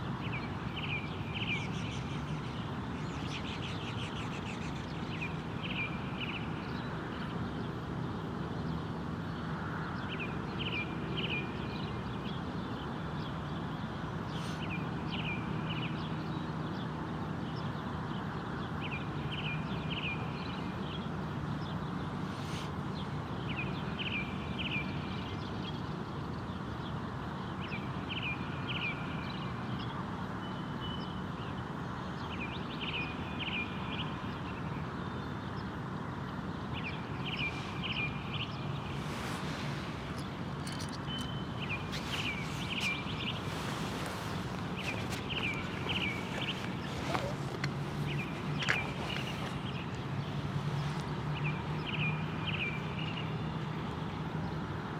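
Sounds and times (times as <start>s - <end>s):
low rushing background noise: 0.0s - 54.9s.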